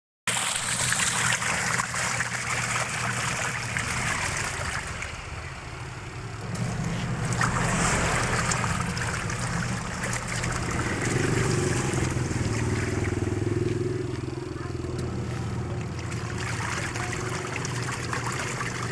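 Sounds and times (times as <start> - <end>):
water rushing and splashing: 0.3 - 18.9
low motor hum: 3.4 - 18.9.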